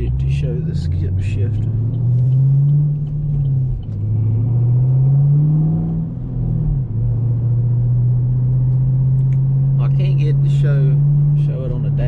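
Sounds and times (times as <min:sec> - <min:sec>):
car engine accelerating through gears: 0:00.0 - 0:12.0.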